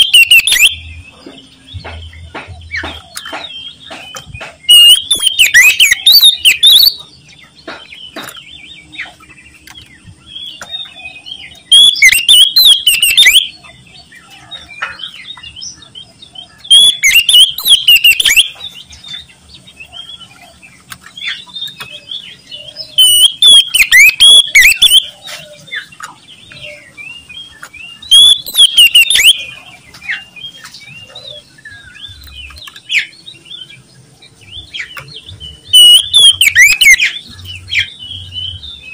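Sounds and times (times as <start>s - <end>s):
bird whistled song: 0.0s - 38.9s
soft bird twittering: 0.0s - 38.9s.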